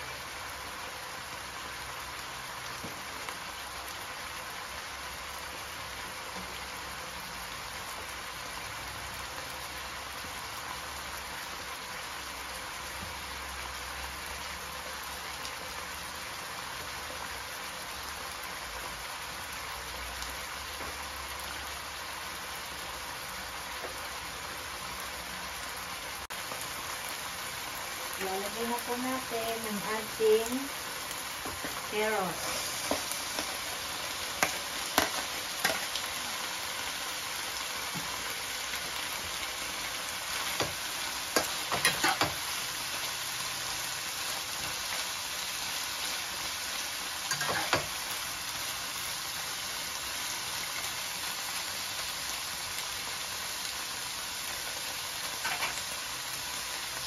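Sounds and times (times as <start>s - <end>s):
food simmering in a wok: 0.0s - 57.0s.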